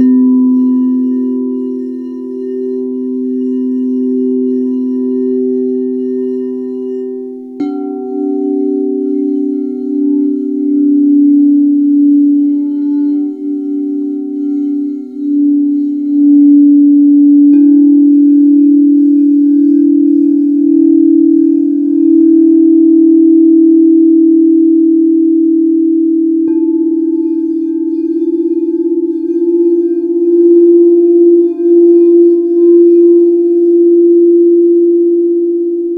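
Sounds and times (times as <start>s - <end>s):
singing bowls ringing: 0.0s - 35.9s.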